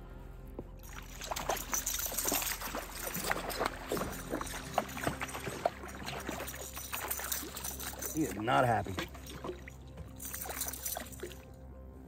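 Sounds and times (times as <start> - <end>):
fish splashing at surface: 0.8 - 11.4.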